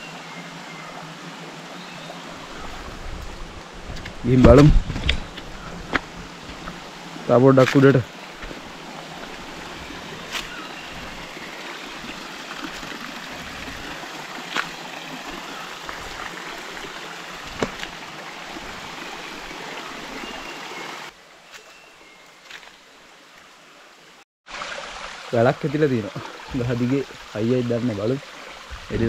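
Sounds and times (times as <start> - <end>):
stream running over rocks: 0.0 - 29.0.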